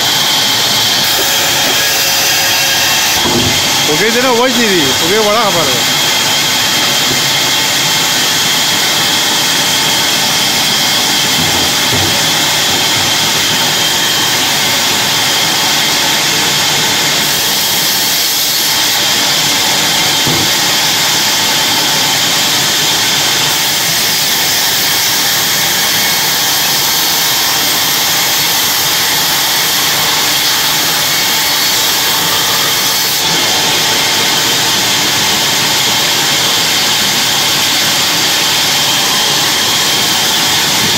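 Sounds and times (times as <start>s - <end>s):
band saw cutting through log: 0.0s - 40.9s
machine running noise: 0.0s - 40.9s.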